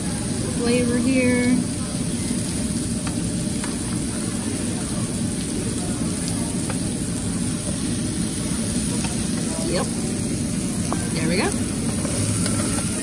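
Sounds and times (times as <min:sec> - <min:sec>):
food sizzling on grill: 0:00.0 - 0:13.0.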